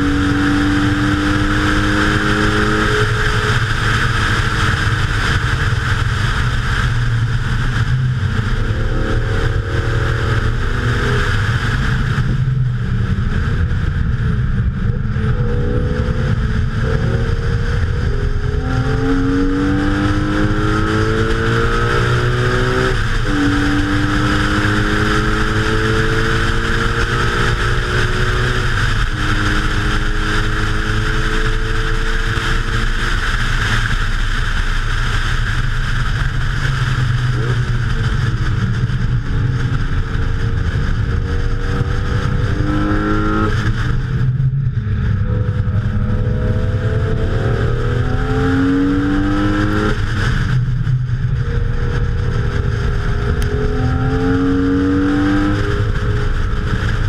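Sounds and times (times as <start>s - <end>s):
car engine accelerating hard: 0.0s - 57.0s
wind and road noise: 0.0s - 57.0s.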